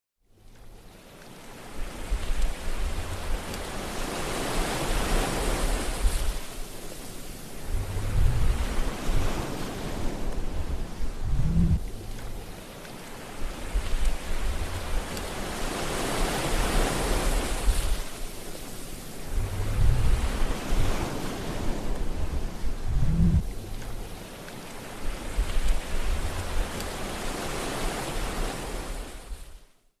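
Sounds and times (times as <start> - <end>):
sea waves breaking on shore: 0.4 - 29.8
surf rushing: 1.7 - 29.3
wind buffeting microphone: 1.8 - 6.6, 7.4 - 24.3, 24.9 - 29.4.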